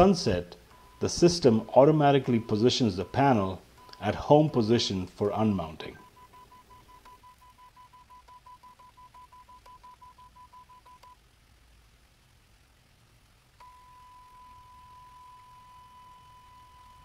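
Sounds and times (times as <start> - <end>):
faint high-pitched electronic whine: 0.0 - 17.0.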